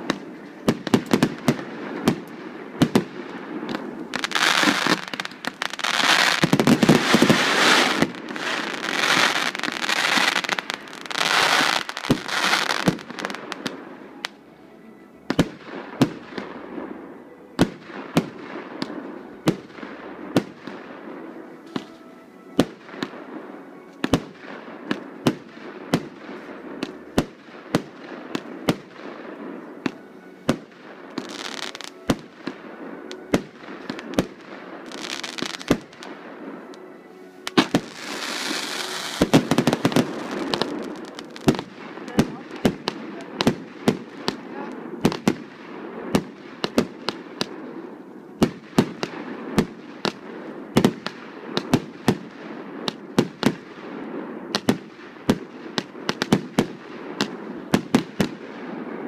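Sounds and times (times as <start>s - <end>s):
fireworks bangs: 0.0s - 14.4s, 22.6s - 47.8s, 48.4s - 59.0s
fireworks crackling: 0.0s - 14.5s, 15.2s - 59.0s.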